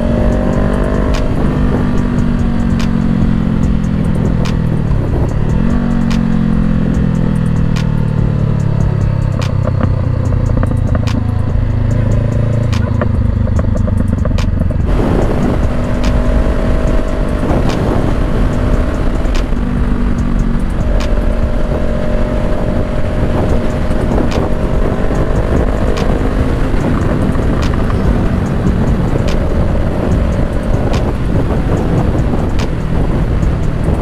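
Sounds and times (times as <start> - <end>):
heavy rush of wind noise: 0.0 - 34.0
motorcycle engine accelerating: 0.0 - 34.0.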